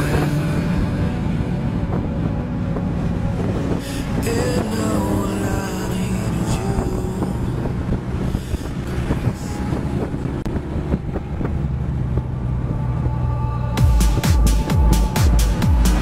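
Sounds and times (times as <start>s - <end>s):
wind buffeting microphone: 0.0s - 15.2s
vehicle engine and road noise: 0.0s - 16.0s.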